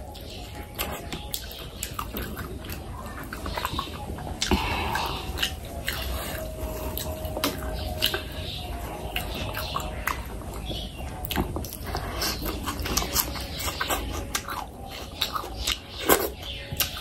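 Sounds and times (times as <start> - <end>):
wet chewing and lip smacking: 0.0 - 17.0.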